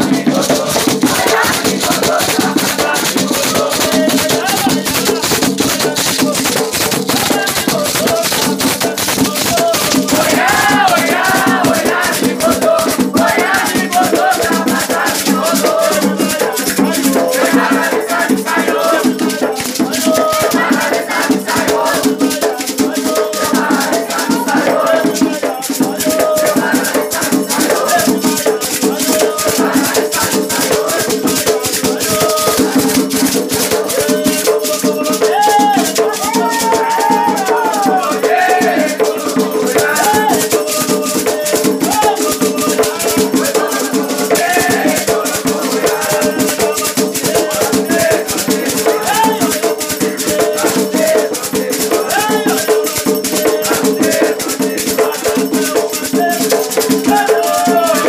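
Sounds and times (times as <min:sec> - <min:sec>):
chanted singing: 0:00.0 - 0:06.5, 0:07.1 - 0:58.0
shaken rattle in fast rhythm: 0:00.0 - 0:58.0.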